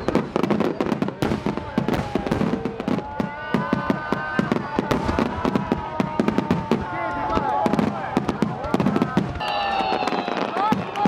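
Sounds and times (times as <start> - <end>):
fireworks bursting: 0.0 - 11.0
fireworks whistling: 0.0 - 11.0.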